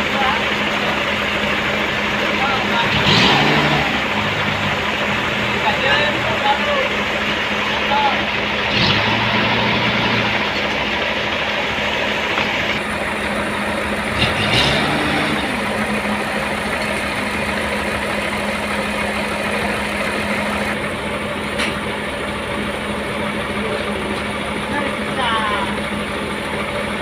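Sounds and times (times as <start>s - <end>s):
sawmill machinery drone: 0.0s - 27.0s.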